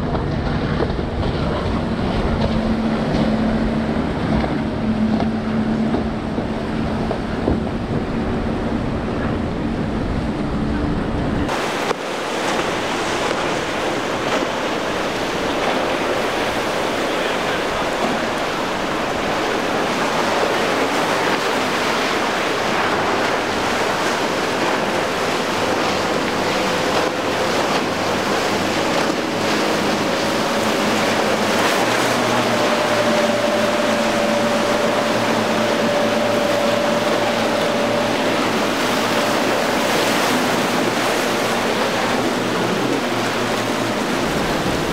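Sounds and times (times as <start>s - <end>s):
choppy water: 0.0s - 44.9s
low engine rumble: 0.0s - 44.9s
outboard engine drone: 0.0s - 44.9s.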